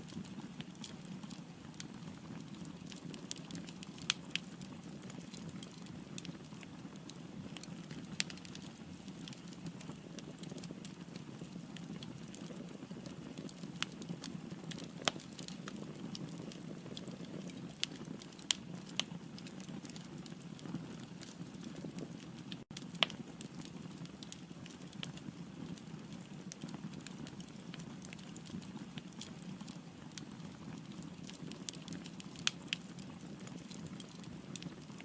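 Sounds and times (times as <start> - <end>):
fire crackles and pops: 0.0 - 35.0
low rumble of flames: 0.1 - 35.0.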